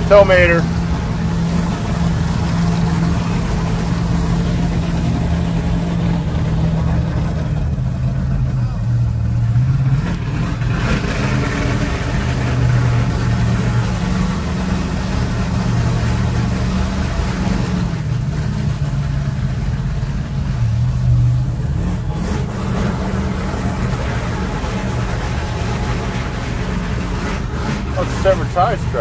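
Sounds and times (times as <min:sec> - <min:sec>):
car engines rumbling at low speed: 0:00.0 - 0:29.0.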